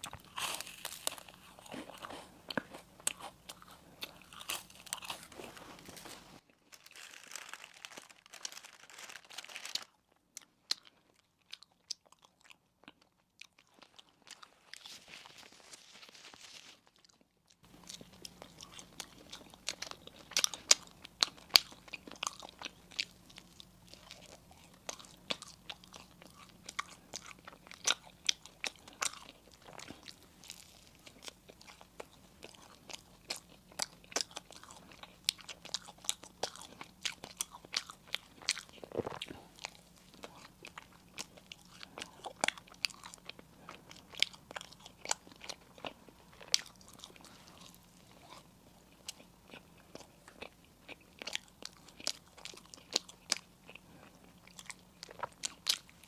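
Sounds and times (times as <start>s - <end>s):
chewing crunchy sweets: 0.0s - 56.0s.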